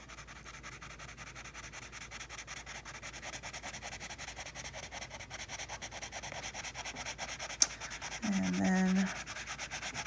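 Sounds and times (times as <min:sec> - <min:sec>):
crayon rubbing on paper: 0:00.0 - 0:10.0.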